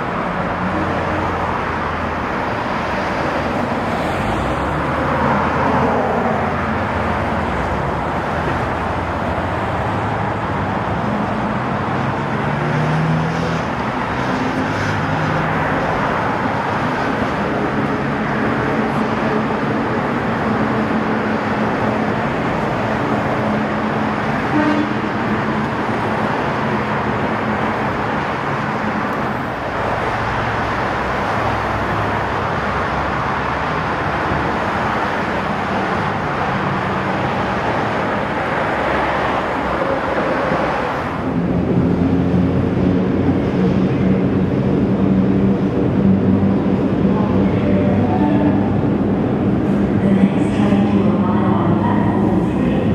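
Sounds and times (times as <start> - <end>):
vehicle engines passing: 0.0 - 52.9.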